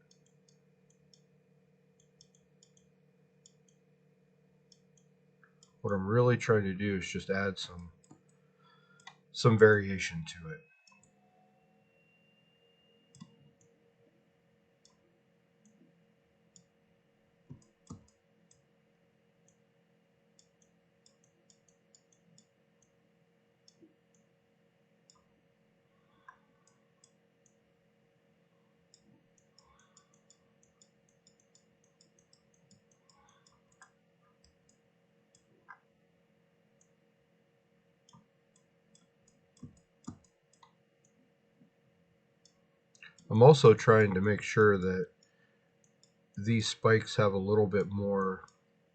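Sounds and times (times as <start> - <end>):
low electrical hum: 0.0 - 48.9.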